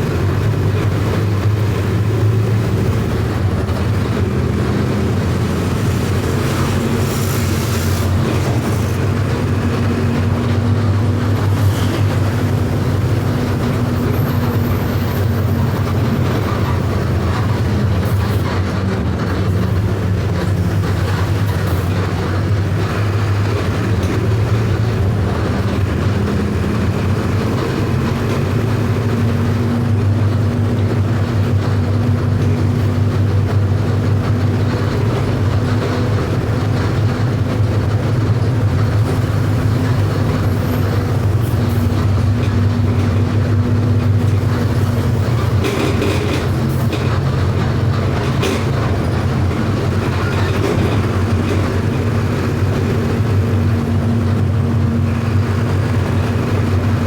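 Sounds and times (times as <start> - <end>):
bus diesel engine rumbling: 0.0 - 57.0.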